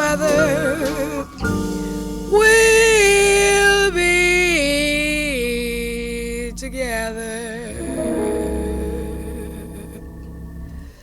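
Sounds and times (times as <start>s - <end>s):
jazz ballad melody: 0.0s - 11.0s
sustained accompaniment: 0.0s - 11.0s.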